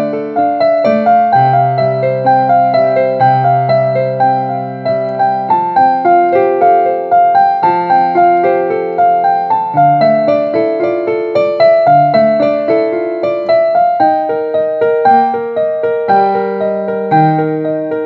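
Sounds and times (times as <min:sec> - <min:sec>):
digital piano melody: 0:00.0 - 0:18.0.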